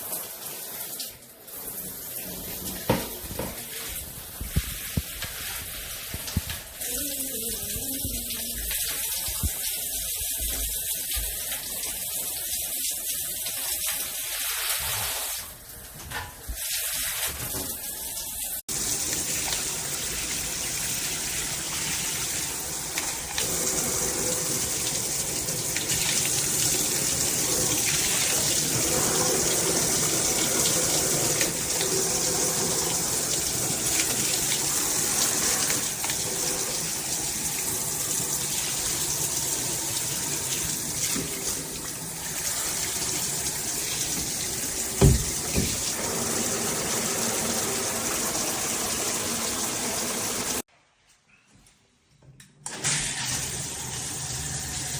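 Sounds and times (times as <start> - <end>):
shower water spraying: 0.0 - 50.7.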